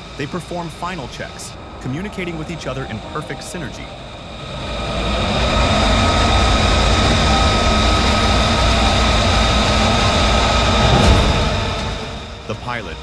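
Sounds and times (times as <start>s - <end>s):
jet engine idling roar: 0.0s - 13.0s.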